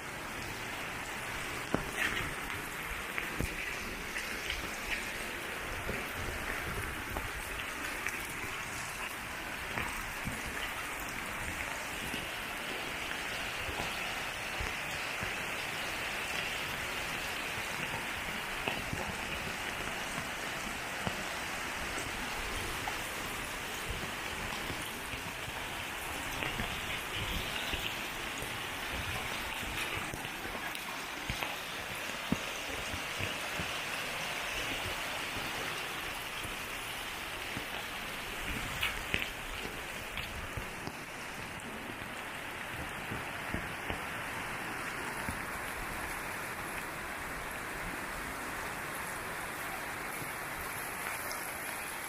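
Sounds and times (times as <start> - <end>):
heavy rain falling: 0.0 - 52.0
runoff water flowing: 0.0 - 52.0
raindrop hits: 0.3 - 49.2.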